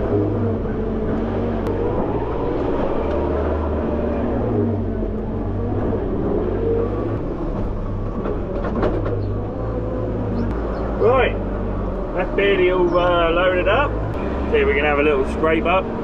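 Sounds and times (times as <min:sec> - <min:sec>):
diesel engine under load: 0:00.0 - 0:16.0.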